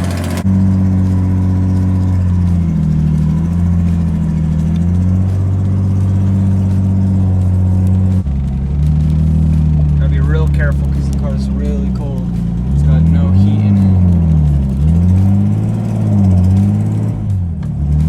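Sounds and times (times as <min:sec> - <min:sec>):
car engine running loud: 0:00.0 - 0:18.0
leaking exhaust: 0:00.0 - 0:18.0.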